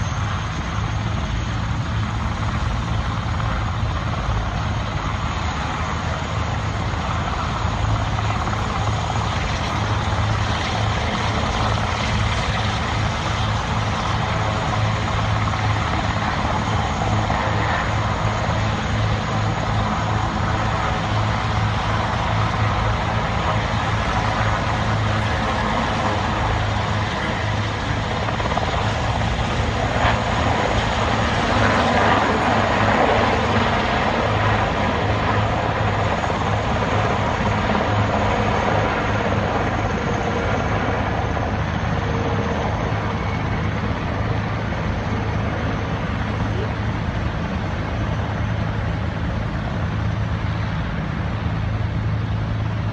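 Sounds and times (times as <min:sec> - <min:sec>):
helicopter rotors and turbines: 0:00.0 - 0:52.9.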